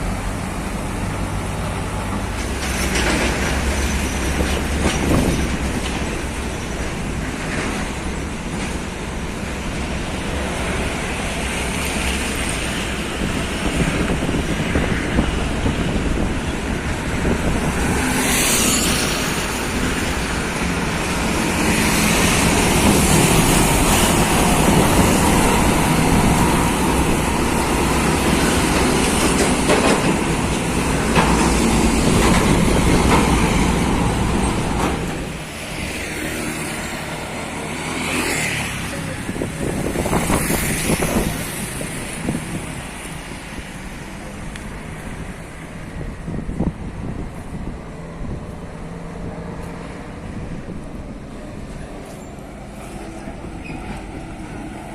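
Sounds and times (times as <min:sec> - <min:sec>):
passing traffic: 0:00.0 - 0:54.9.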